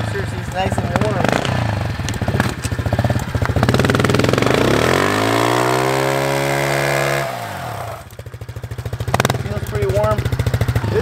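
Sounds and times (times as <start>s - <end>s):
motorbike engine idling and revving: 0.0s - 11.0s.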